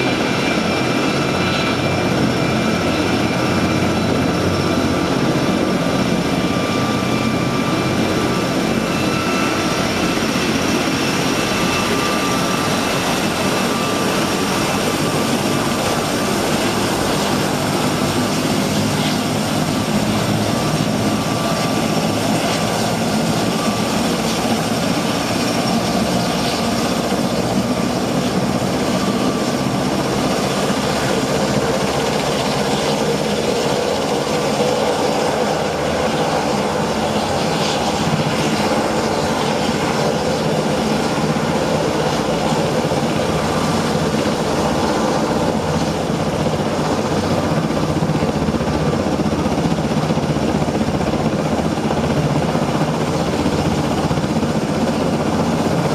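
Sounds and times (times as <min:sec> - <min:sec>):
tiltrotor aircraft rotor noise: 0:00.0 - 0:55.9
turbine whine: 0:00.0 - 0:55.9.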